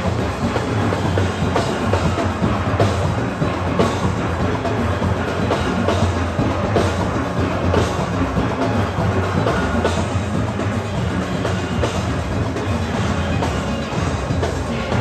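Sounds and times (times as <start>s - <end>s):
drums and percussion: 0.0s - 15.0s.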